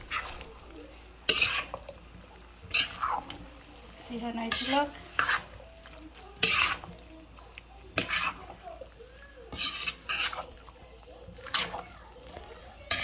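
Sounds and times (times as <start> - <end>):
spatula scraping a wok: 0.0 - 13.0.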